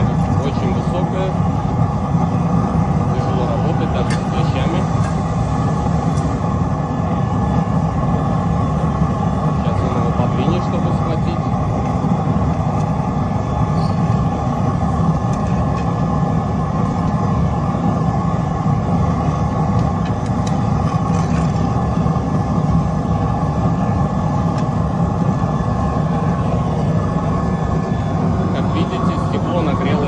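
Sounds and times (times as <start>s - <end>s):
roar of flame: 0.0s - 30.0s.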